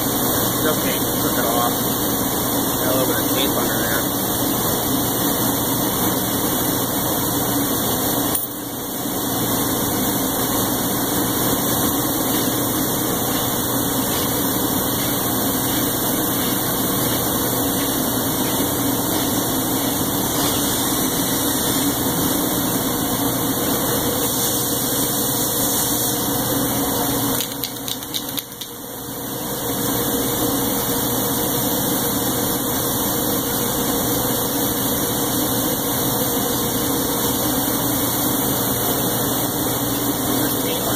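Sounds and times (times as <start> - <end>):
workshop motor droning: 0.0 - 40.9.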